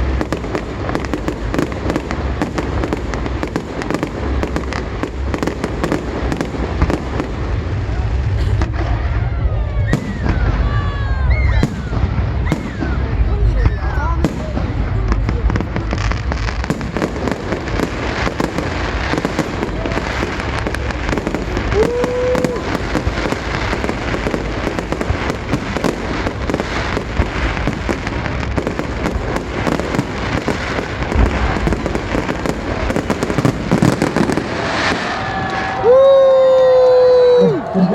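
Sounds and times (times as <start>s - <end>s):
low rumble of booms: 0.0s - 36.0s
fireworks crackling and popping: 0.0s - 37.9s.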